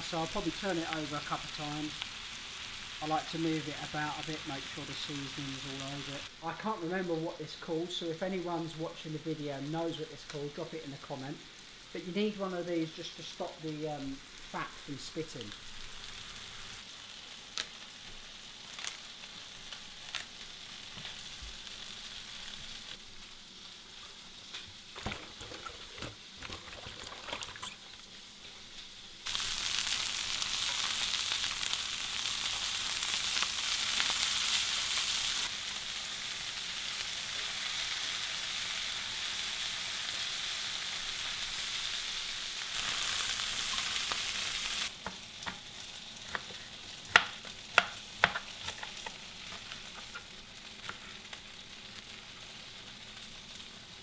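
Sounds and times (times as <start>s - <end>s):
chicken sizzling in oil: 0.0s - 6.5s, 9.5s - 54.0s.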